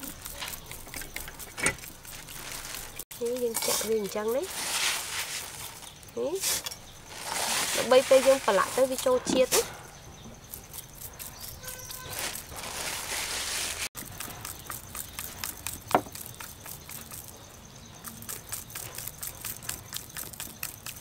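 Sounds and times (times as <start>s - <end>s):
skewers pricking chicken: 0.0s - 4.5s, 8.0s - 21.0s.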